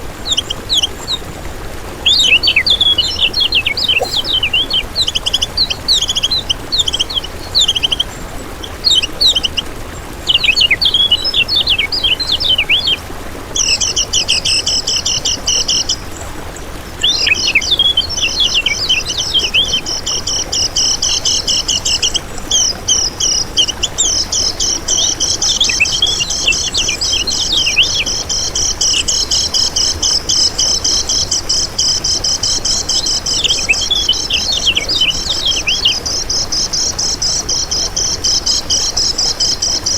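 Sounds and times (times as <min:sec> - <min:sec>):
bird singing chirps and trills: 0:00.0 - 0:13.0, 0:13.6 - 0:39.9.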